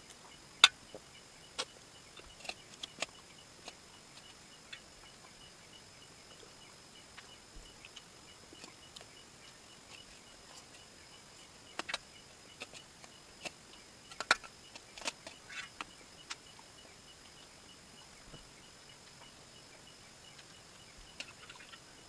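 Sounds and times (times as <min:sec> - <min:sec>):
faint pulsing chirp: 0:00.0 - 0:22.0.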